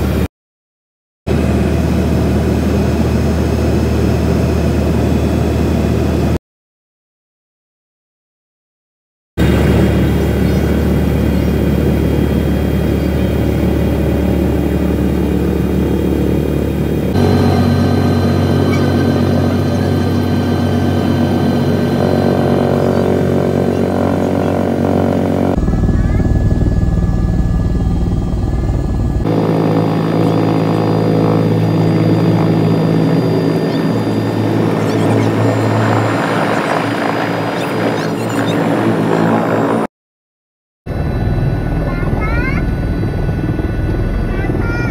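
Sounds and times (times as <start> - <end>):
helicopter engine and rotor drone: 0.0 - 0.3, 1.3 - 6.4, 9.4 - 39.9, 40.9 - 44.9.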